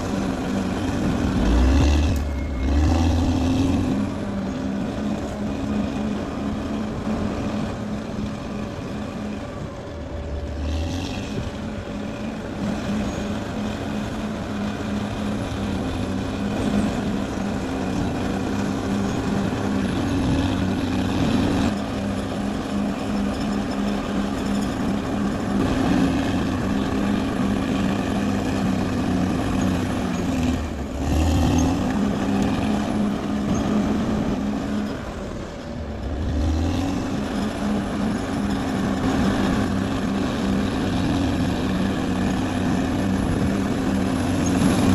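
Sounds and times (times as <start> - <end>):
bulldozer diesel engine under load: 0.0 - 44.9.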